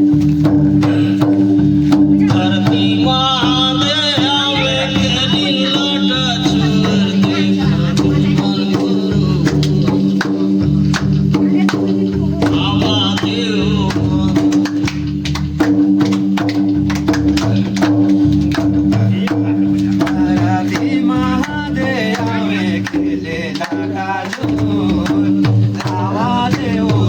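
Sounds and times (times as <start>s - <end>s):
drums and percussion: 0.0s - 27.0s
steady held drone: 0.8s - 27.0s.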